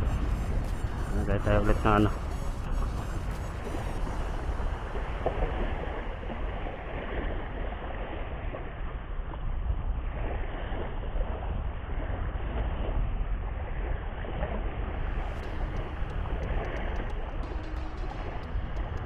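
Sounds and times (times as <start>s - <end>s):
small waves on a beach: 0.0s - 18.7s
wind rumbling on microphone: 0.0s - 19.0s.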